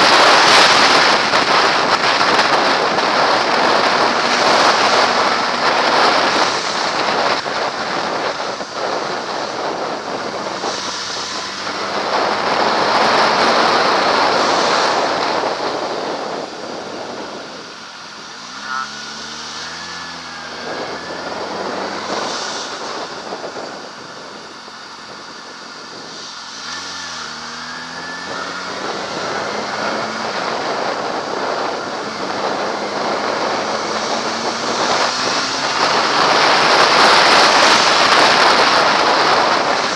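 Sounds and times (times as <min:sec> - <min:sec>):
motorcycle engine revving: 0:00.0 - 0:39.9
wind rushing on microphone: 0:00.0 - 0:39.9.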